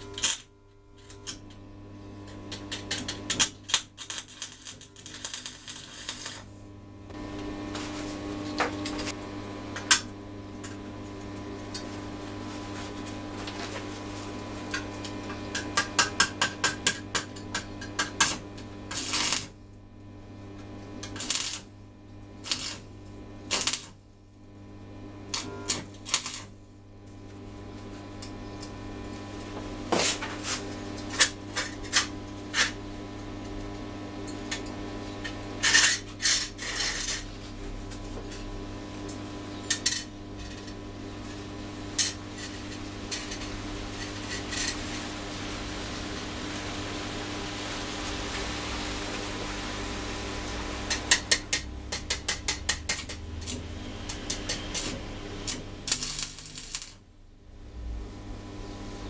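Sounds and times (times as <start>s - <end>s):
welding arc crackling: 0.0s - 57.1s.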